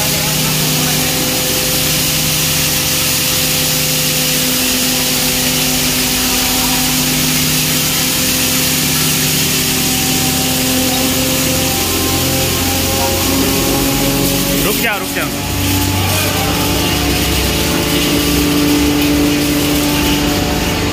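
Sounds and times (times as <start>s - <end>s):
electric motor hum: 0.0s - 20.9s
hammer mill grinding maize: 0.0s - 20.9s.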